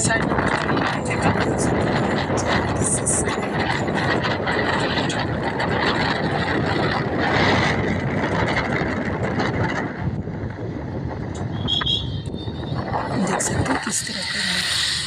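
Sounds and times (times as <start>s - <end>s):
auto-rickshaw engine and road noise: 0.0s - 15.0s.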